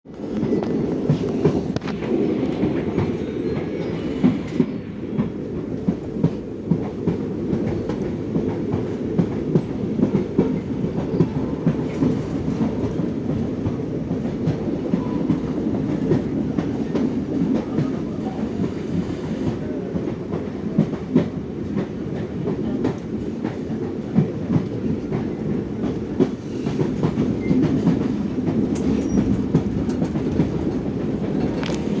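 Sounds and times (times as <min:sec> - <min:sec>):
train rumbling: 0:00.1 - 0:32.0.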